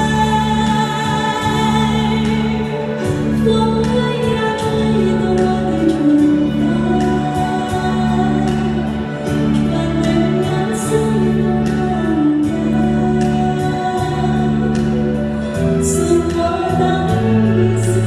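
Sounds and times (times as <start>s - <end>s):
amplified instrumental accompaniment: 0.0s - 18.0s
woman singing into microphone: 0.0s - 18.0s.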